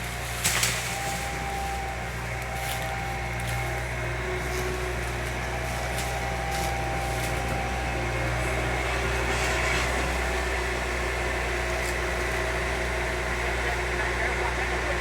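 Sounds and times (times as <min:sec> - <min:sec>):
motor idling: 0:00.0 - 0:15.0.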